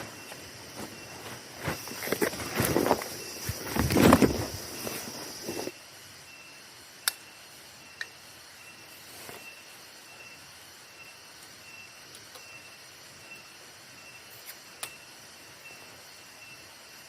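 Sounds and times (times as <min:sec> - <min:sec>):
insects hissing: 0:00.0 - 0:17.0.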